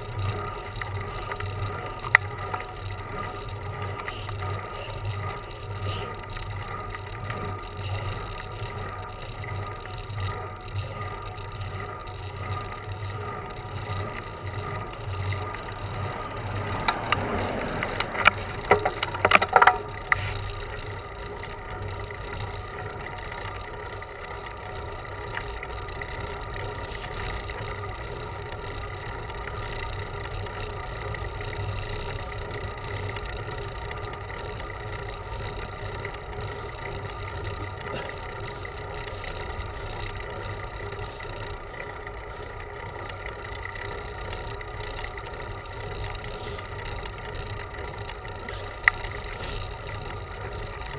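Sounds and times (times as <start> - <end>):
bicycle riding rumble: 0.0 - 50.9
sharp clicks and rattles: 0.0 - 50.9.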